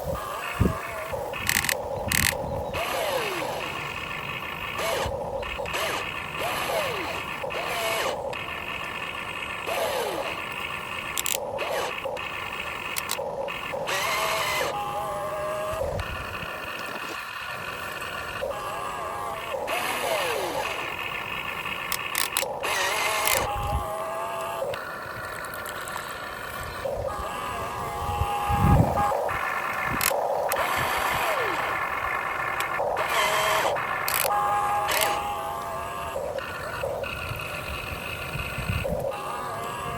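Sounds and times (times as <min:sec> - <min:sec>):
sharp clicks: 0:00.0 - 0:14.9, 0:18.0 - 0:27.5, 0:28.2 - 0:39.9
electric motors whining: 0:00.0 - 0:39.9.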